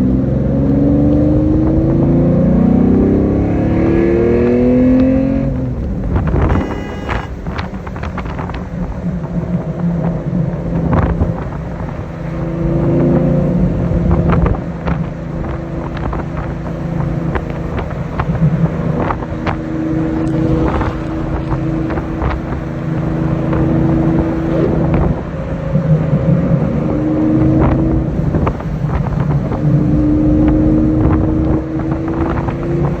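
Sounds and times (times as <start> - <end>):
wind noise: 0.0 - 33.0
car engine running: 0.4 - 33.0.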